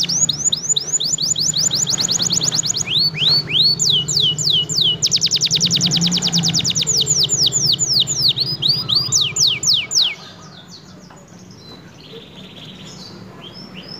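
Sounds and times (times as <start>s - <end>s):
canary singing trills: 0.0s - 13.9s
soft bird chirps: 0.0s - 13.9s.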